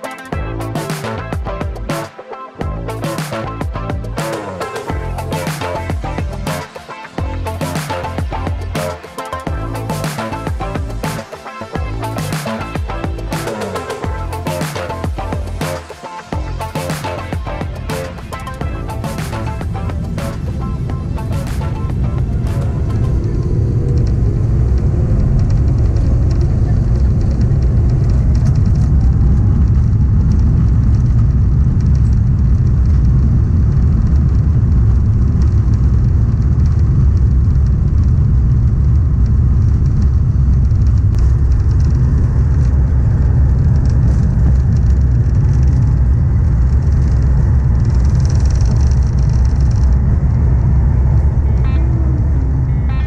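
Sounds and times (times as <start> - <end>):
jet engines rumbling at take-off: 0.0 - 53.0.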